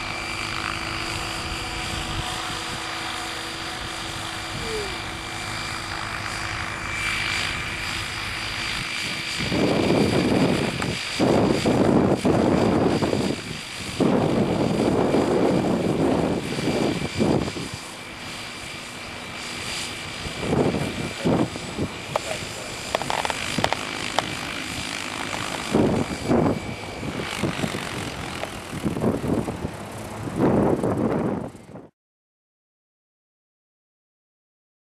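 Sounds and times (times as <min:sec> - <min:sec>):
model helicopter rotor whine: 0:00.0 - 0:31.9.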